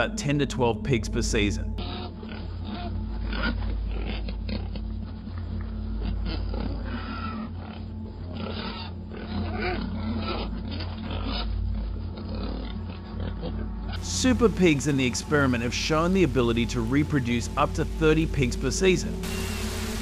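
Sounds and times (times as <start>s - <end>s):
steady low hum: 0.0s - 20.0s
pigs grunting and squealing: 1.3s - 19.3s.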